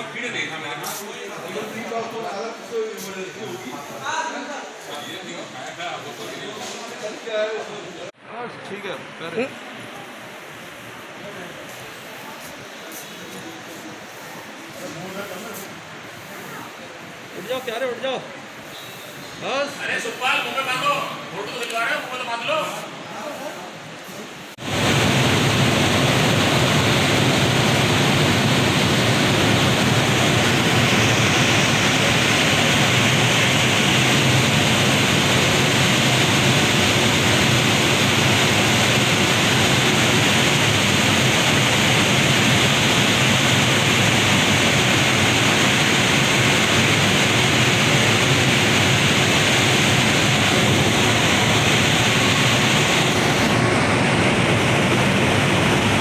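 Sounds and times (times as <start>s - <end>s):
loud steady rushing hiss: 0.0s - 56.0s.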